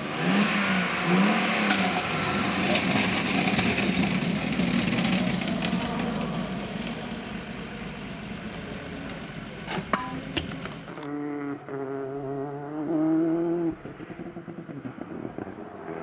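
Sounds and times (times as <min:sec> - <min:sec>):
engine running at steady pitch: 0:00.0 - 0:16.0
rally car engine: 0:00.0 - 0:16.0.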